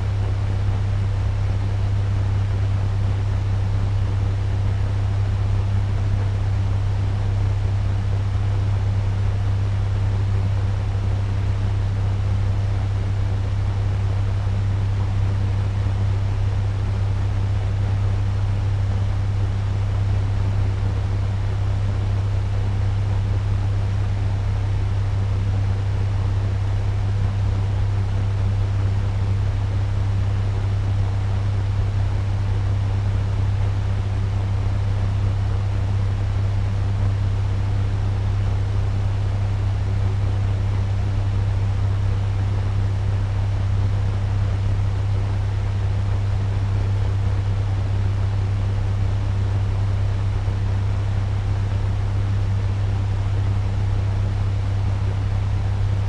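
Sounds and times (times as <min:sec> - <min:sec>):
fan running: 0:00.0 - 0:56.0.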